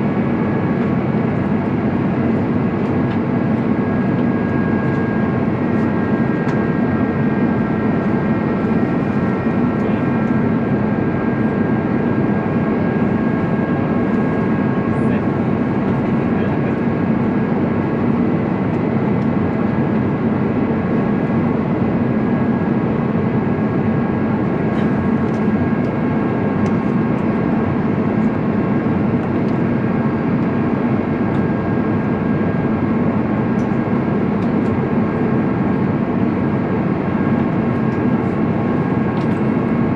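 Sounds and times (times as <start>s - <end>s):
high whining fan tones: 0.0s - 39.9s
jet engine cabin drone: 0.0s - 39.9s.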